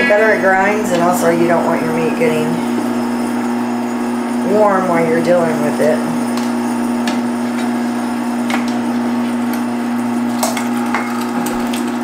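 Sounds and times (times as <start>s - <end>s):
meat grinder motor hum: 0.0s - 12.0s.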